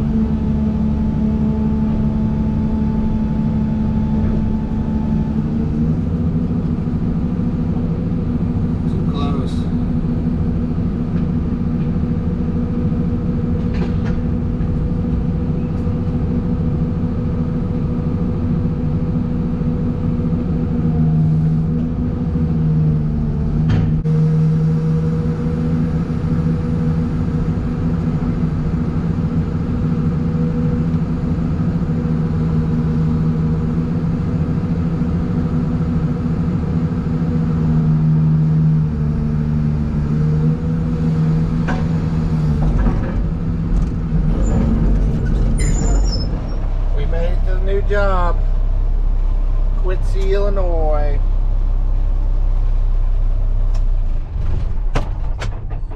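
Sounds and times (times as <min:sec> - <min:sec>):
heavy truck engine running: 0:00.0 - 0:55.9.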